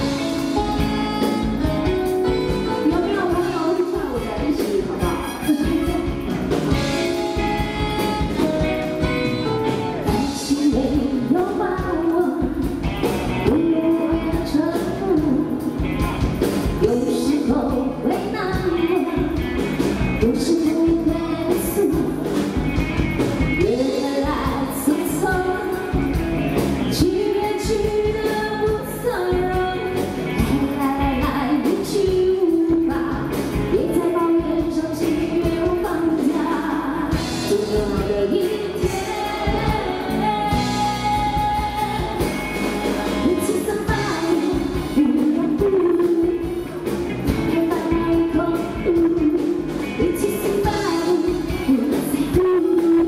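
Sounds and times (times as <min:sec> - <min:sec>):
woman singing into a microphone: 0:00.0 - 0:16.0, 0:16.6 - 0:22.6, 0:23.4 - 0:53.0
pop band with drums and keyboards: 0:00.0 - 0:53.0.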